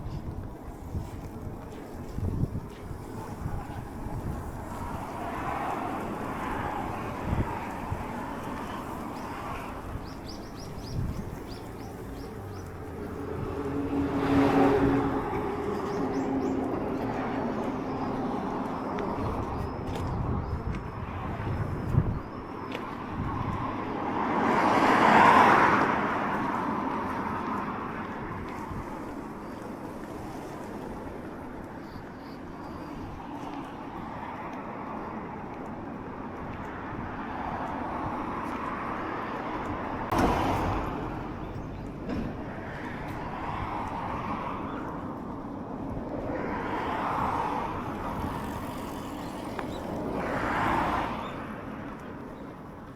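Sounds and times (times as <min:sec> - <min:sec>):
car passing: 0:00.0 - 0:20.1, 0:22.9 - 0:32.0, 0:32.7 - 0:52.9
traffic noise: 0:00.0 - 0:52.9.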